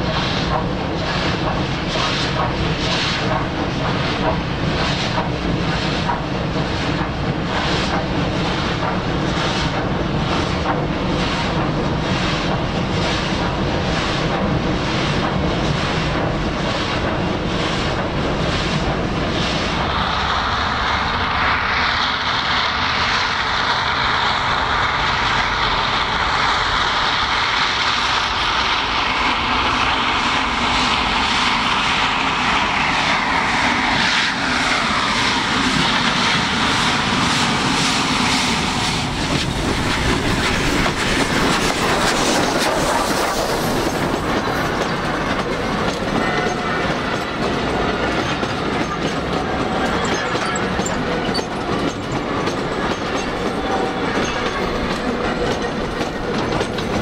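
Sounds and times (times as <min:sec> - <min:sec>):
hiss of steam: 0:00.0 - 0:57.0
steam locomotive exhaust beats: 0:00.0 - 0:57.0.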